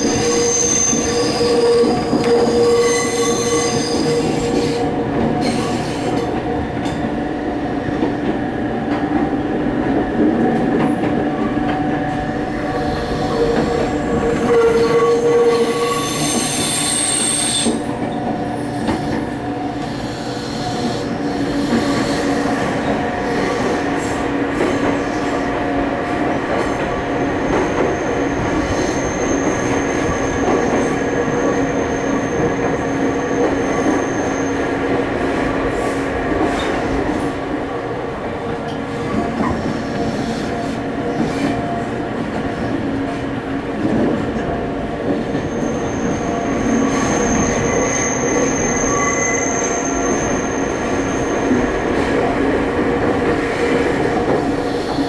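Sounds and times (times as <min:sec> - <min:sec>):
wheels squealing on rails: 0:00.0 - 0:07.0, 0:10.5 - 0:37.4, 0:38.7 - 0:43.2, 0:43.8 - 0:55.0
train rumble: 0:00.0 - 0:55.0.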